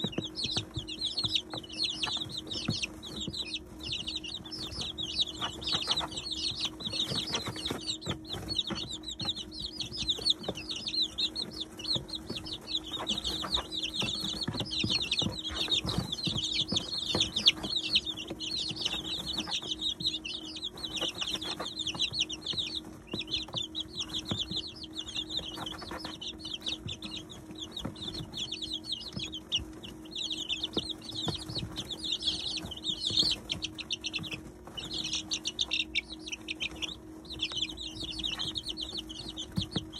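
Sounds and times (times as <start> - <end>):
chicks pecking at grain: 0.0 - 39.9
chicks peeping: 0.0 - 39.9
steady low hum: 0.0 - 39.9.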